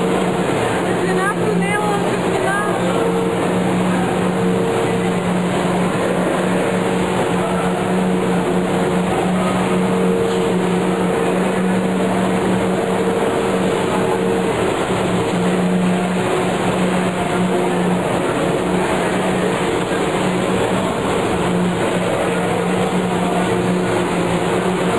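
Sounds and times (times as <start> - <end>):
low hum: 0.0 - 24.9
machinery drone: 0.0 - 24.9.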